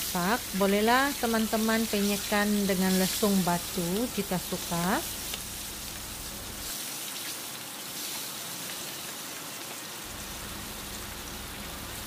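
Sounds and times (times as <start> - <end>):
chicken deep-frying in hot oil: 0.0 - 12.0.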